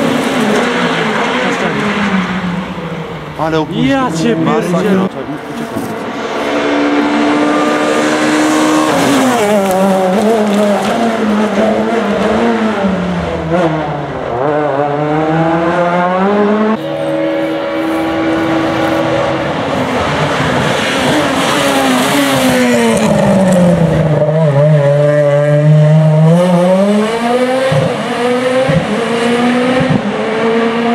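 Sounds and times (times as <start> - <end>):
rally car engines revving: 0.0 - 30.9.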